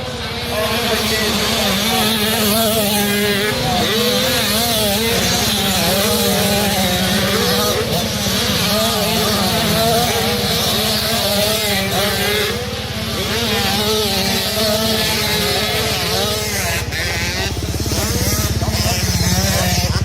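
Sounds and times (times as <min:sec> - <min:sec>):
motocross bikes racing: 0:00.0 - 0:20.0.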